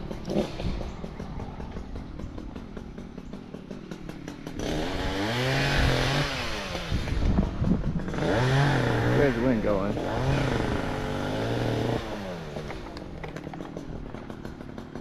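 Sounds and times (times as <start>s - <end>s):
chainsaw idling and revving: 0.0s - 15.0s.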